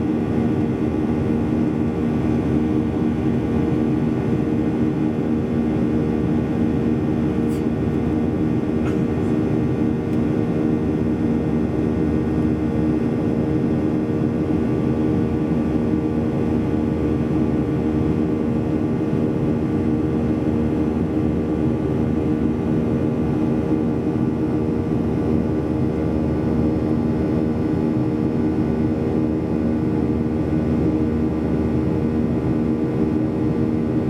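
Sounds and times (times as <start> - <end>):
jet cabin drone: 0.0 - 34.0.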